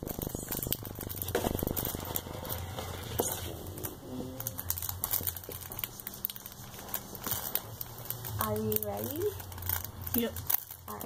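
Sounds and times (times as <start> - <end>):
faint low hum: 0.0 - 11.0
paper rustling: 0.0 - 11.0.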